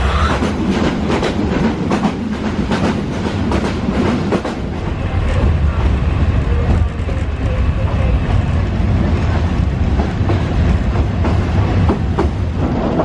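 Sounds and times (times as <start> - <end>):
train low rumble: 0.0 - 13.0
wheels clacking over rail joints: 0.0 - 13.0.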